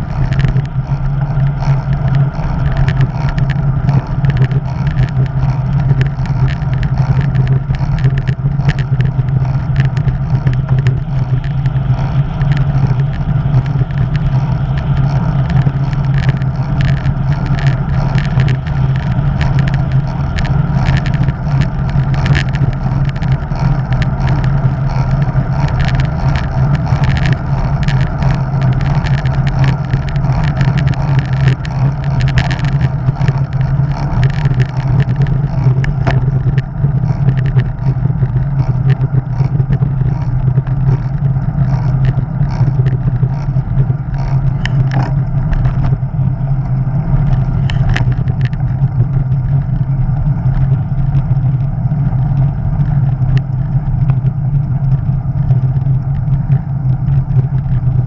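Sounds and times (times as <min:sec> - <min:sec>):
bike clicks and rattles: 0:00.0 - 0:58.0
tyre road noise: 0:00.0 - 0:58.0
wind roaring over microphone: 0:00.0 - 0:58.0.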